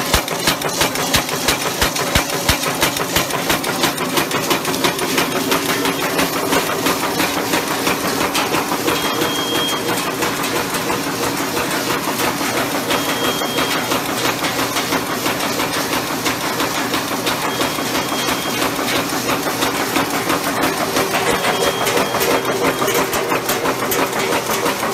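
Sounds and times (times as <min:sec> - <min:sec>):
nail making machine clattering: 0:00.0 - 0:24.9.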